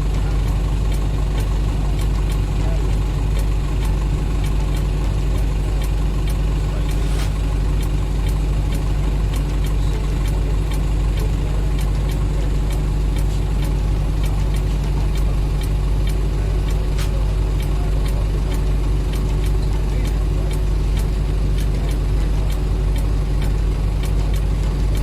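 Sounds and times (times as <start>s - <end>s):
loud engine drone: 0.0s - 25.0s.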